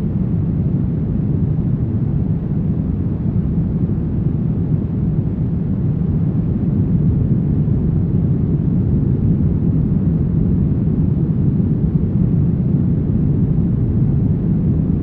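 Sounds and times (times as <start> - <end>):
deep rumbling brown noise: 0.0 - 15.0.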